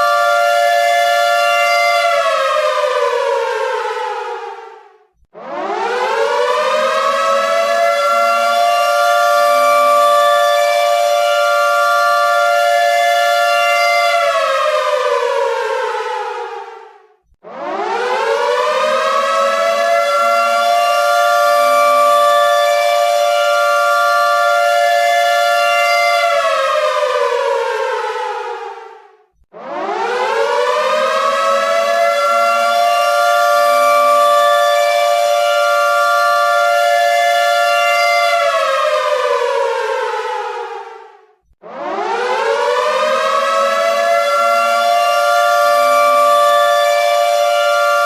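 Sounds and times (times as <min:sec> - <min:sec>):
air raid siren wailing: 0:00.0 - 0:48.0.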